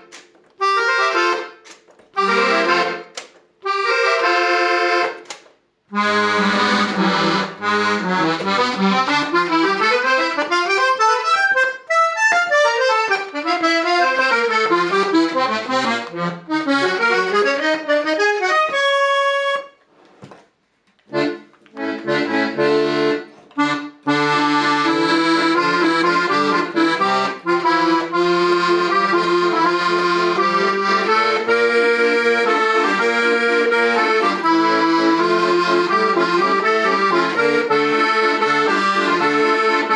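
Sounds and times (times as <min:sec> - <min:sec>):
accordion playing: 0:00.0 - 0:20.4, 0:21.0 - 0:39.9.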